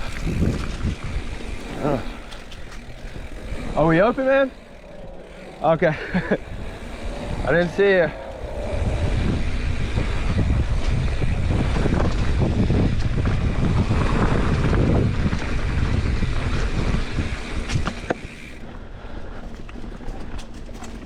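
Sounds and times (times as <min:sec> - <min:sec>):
wind buffeting microphone: 0:00.0 - 0:20.4
bike rolling over dirt: 0:00.0 - 0:21.0.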